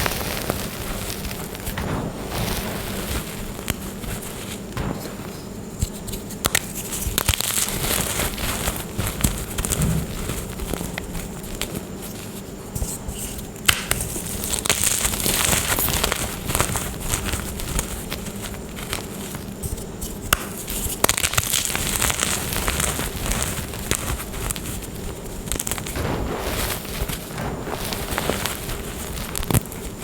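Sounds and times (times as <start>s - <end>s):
chalk crackling and crunching: 0.0s - 30.0s.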